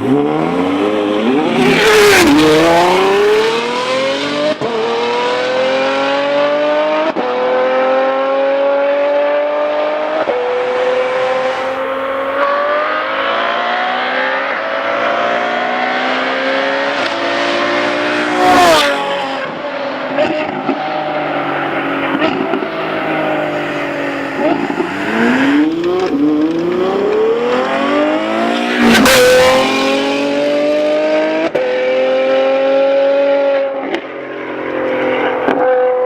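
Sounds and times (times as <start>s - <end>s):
sports car engine accelerating: 0.0s - 36.0s.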